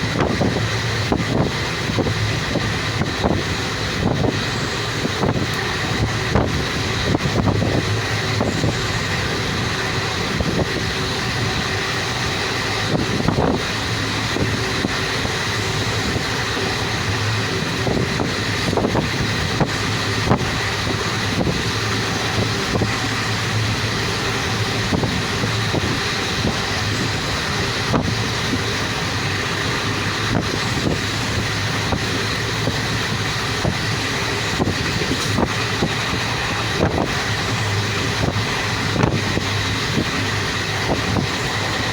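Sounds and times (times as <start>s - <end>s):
train rumbling: 0.0s - 41.9s
wind buffeting microphone: 0.0s - 41.9s.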